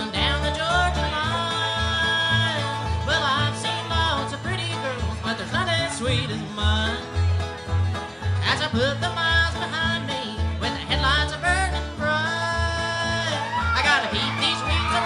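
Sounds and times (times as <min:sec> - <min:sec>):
man singing: 0:00.0 - 0:07.2, 0:08.4 - 0:15.0
bluegrass band playing: 0:00.0 - 0:15.0.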